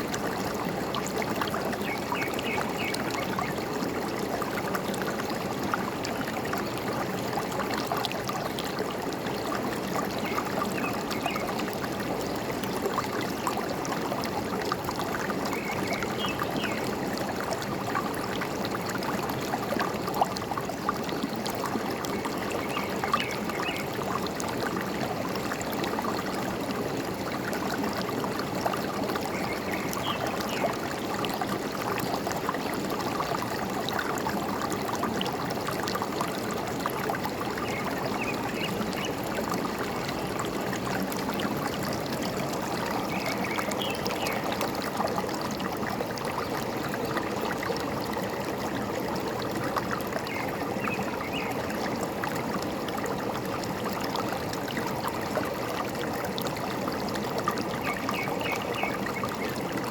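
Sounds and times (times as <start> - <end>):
forest stream babbling: 0.0 - 59.9.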